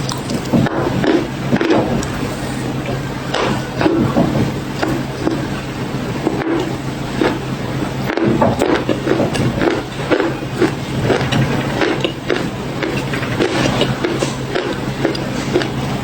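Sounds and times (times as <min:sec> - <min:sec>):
crunching and chewing cookies: 0:00.0 - 0:16.0
low hum: 0:00.0 - 0:16.0.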